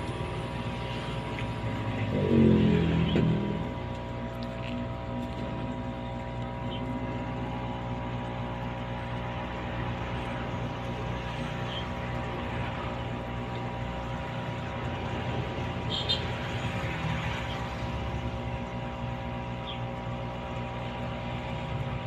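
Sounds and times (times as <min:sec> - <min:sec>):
aquarium pump humming: 0:00.0 - 0:22.0.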